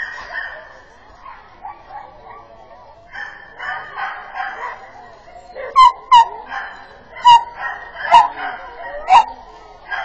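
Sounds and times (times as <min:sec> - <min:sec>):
dogs barking faintly: 0:00.0 - 0:10.0
indistinct voices: 0:00.0 - 0:10.0
outdoor background noise: 0:00.0 - 0:10.0.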